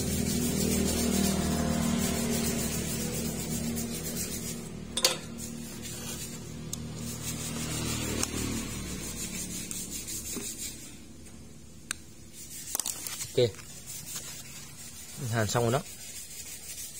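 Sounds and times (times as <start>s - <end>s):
rubbing and scraping on wires: 0.0s - 11.4s, 12.2s - 16.9s.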